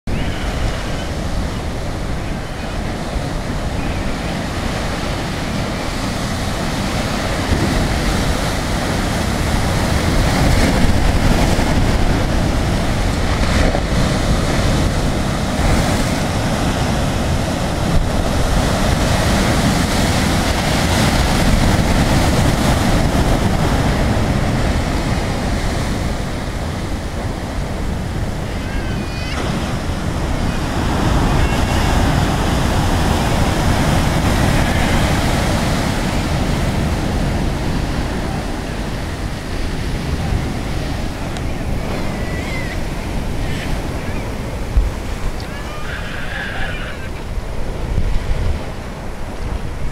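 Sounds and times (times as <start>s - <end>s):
surf breaking over rocks: 0.1s - 49.9s
wind buffeting microphone: 0.1s - 49.9s.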